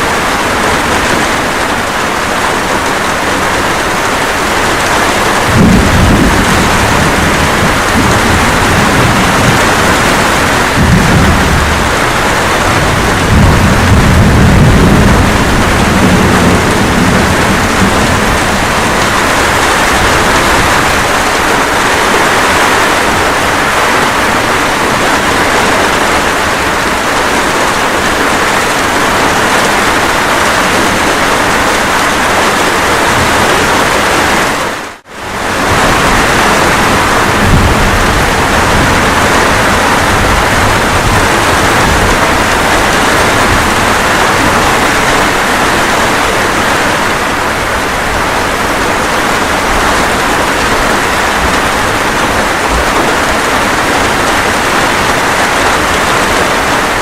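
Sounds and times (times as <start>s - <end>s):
light rain: 0.0s - 57.0s
low thunder rumble: 2.2s - 34.0s, 35.2s - 57.0s.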